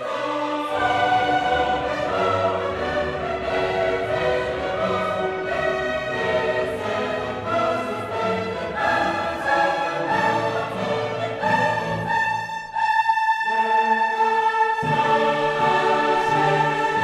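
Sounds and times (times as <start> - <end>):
choir singing: 0.0 - 17.0
orchestral music: 0.0 - 17.0.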